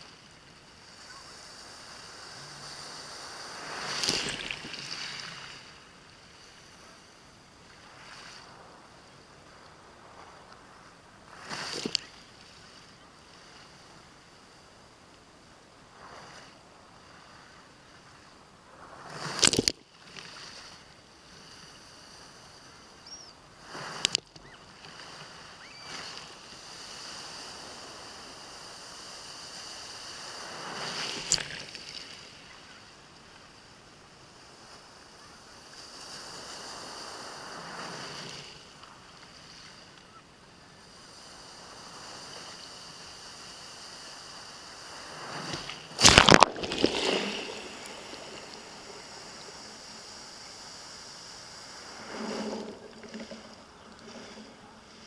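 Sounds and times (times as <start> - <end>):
muffled surf over stones: 0.0 - 55.0.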